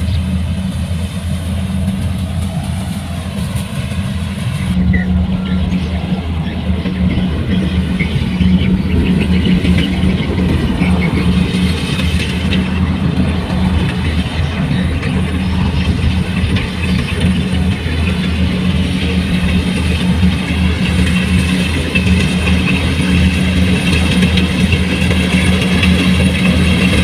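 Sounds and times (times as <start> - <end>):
farm machine engine running: 0.0 - 27.0.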